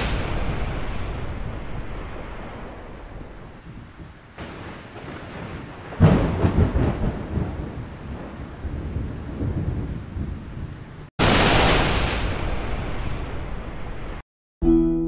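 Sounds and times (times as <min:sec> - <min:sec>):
rain hiss: 0:00.0 - 0:14.2
rolling thunder rumble: 0:00.0 - 0:14.2
thunderclap with crackling: 0:00.0 - 0:14.2.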